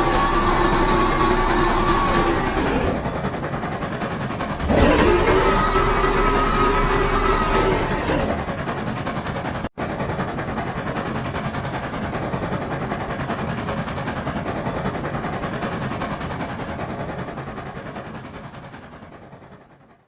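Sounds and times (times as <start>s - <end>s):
steam locomotive chuffing: 0.0s - 19.9s.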